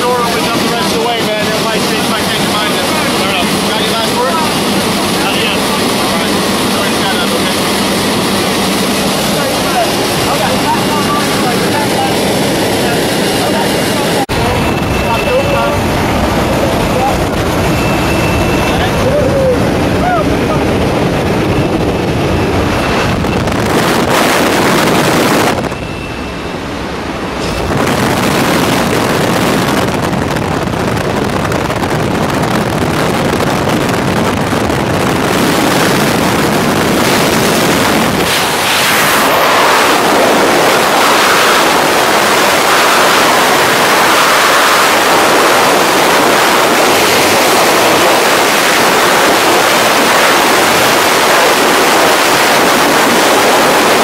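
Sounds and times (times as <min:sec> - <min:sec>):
wind buffeting microphone: 0:00.0 - 0:25.9, 0:26.7 - 0:54.0.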